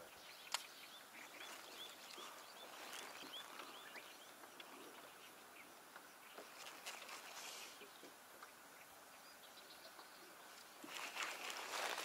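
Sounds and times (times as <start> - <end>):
bird chirping: 0.0 - 11.5.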